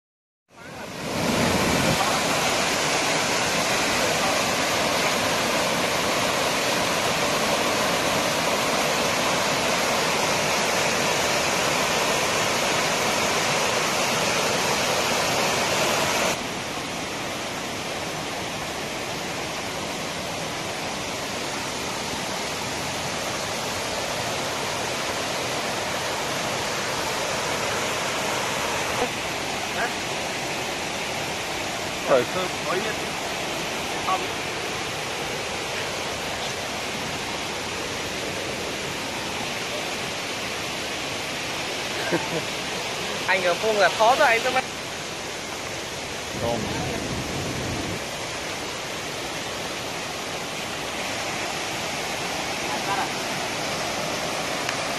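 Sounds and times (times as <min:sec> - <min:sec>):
water rushing down rocky stream: 0:00.6 - 0:54.9.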